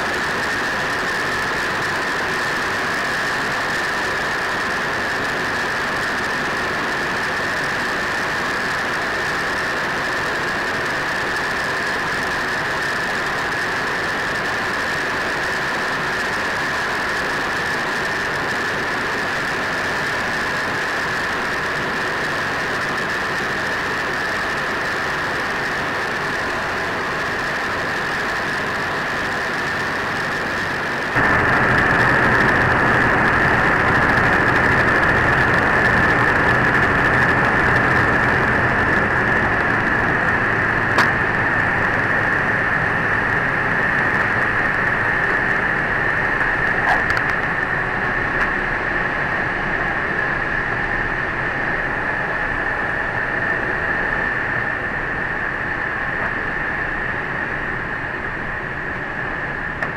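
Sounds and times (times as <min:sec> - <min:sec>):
aircraft engines droning: 0:00.0 - 0:59.9.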